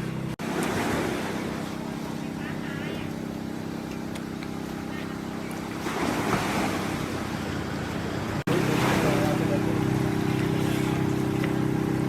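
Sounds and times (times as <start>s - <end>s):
low engine hum: 0.0s - 12.0s
sea waves washing onto beach: 0.0s - 12.0s.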